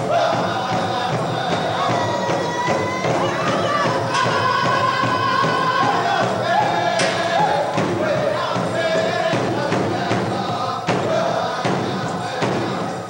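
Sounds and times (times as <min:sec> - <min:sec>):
high voices singing: 0:00.0 - 0:13.0
large drum beats: 0:00.0 - 0:13.0.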